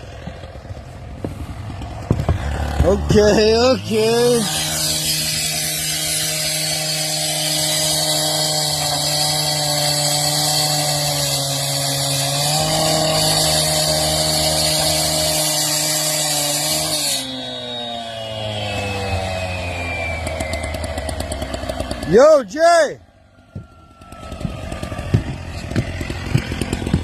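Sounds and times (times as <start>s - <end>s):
saw cutting brick: 1.8s - 22.8s, 24.0s - 27.0s.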